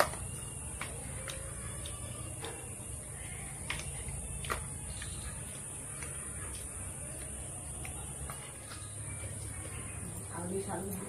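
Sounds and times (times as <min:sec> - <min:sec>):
chewing and mouth smacks: 0:00.0 - 0:10.0.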